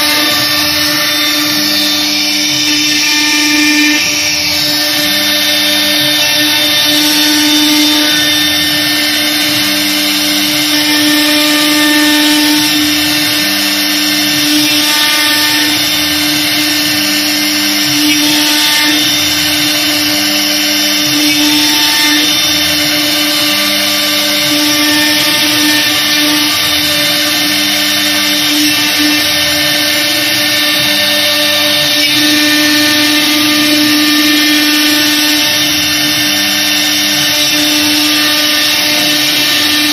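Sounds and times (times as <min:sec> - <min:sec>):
lower machine sounds: 0:00.0 - 0:39.9
router spindle whining: 0:00.0 - 0:39.9.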